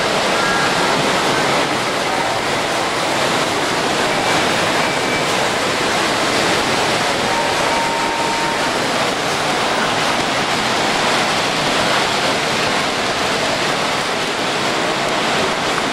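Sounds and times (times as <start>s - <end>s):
busy hall background din: 0.0s - 15.9s.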